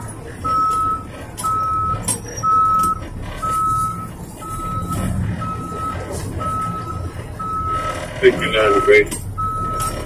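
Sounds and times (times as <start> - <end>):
truck backup alarm beeping: 0.0 - 10.0
truck engine running: 0.0 - 10.0.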